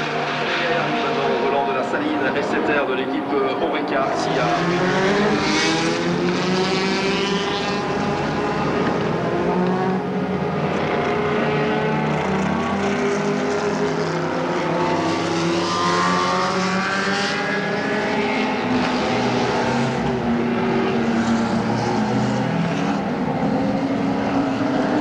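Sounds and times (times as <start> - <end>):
race car engines running: 0.0 - 25.0.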